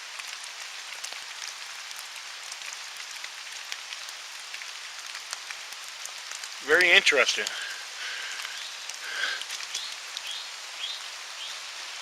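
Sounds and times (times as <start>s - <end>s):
rain hissing in woodland: 0.0s - 12.0s
raindrops ticking: 0.0s - 12.0s.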